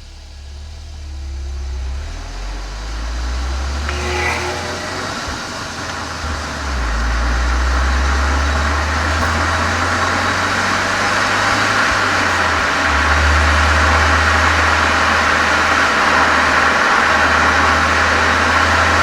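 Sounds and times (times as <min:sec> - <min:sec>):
car exhaust drone: 0:00.0 - 0:19.0.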